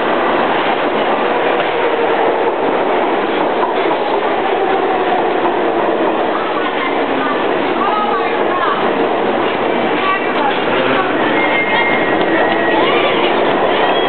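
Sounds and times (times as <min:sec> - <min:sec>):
subway train rumbling on rails: 0:00.0 - 0:14.0.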